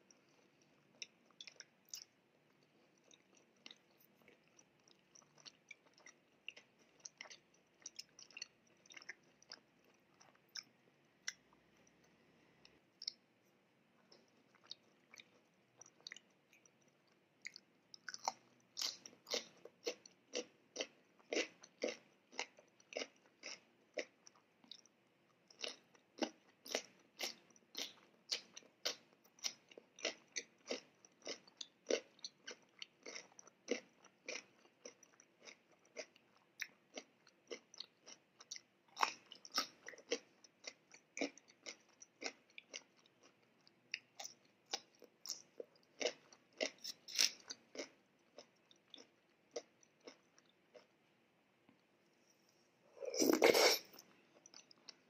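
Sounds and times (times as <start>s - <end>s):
crunchy chewing: 0.2s - 13.2s, 14.0s - 24.9s, 25.5s - 50.9s.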